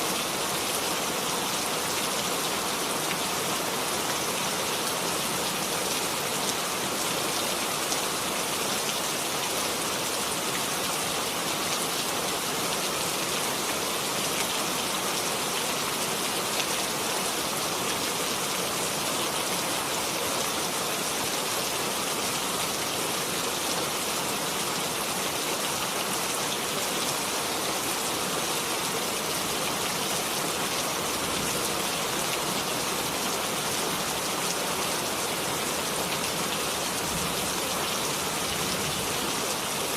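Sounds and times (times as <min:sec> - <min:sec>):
rain hissing on surfaces: 0:00.0 - 0:39.9.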